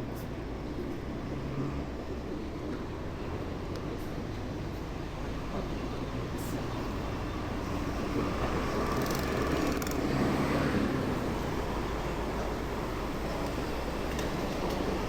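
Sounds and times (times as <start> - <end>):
motor traffic and road noise: 0.0 - 15.0.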